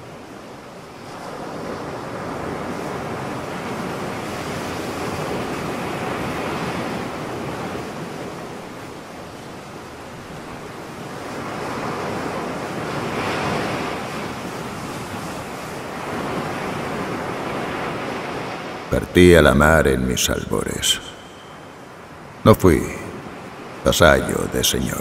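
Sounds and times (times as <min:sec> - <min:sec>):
sea surf washing ashore: 0:00.8 - 0:25.0.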